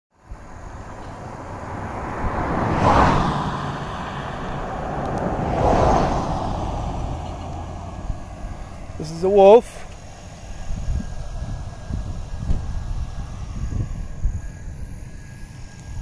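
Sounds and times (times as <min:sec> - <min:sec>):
low traffic rumble: 0:00.1 - 0:16.0
vehicles passing: 0:00.2 - 0:16.0.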